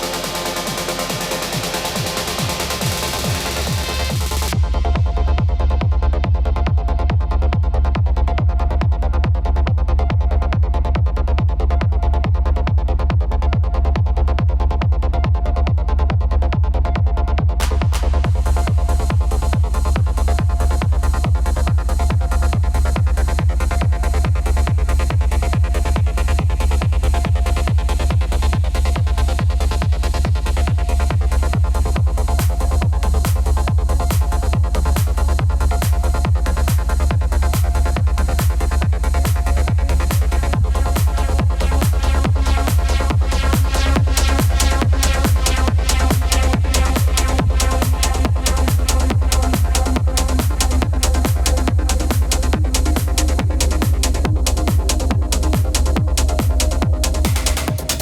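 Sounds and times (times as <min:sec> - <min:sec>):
heavy kick drum beat: 0:00.0 - 0:58.0.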